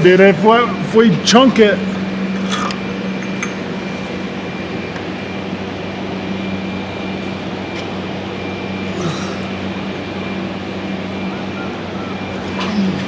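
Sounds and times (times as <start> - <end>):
heater fan humming: 0.0 - 13.0.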